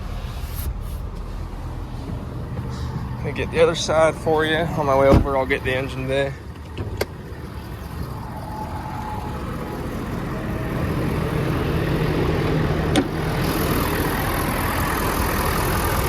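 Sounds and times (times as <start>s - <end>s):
pickup truck engine idling: 0.0s - 16.0s.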